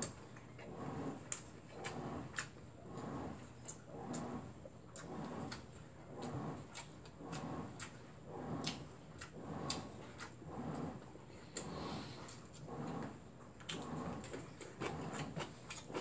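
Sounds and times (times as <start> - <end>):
person chewing noodles: 0.0 - 16.0.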